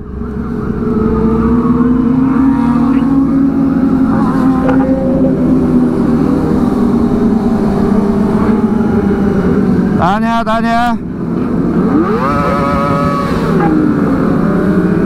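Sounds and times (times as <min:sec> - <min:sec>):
motorcycle engines shifting pitch: 0:00.0 - 0:10.2, 0:11.0 - 0:15.0
loud steady motorcycle engine: 0:00.0 - 0:15.0.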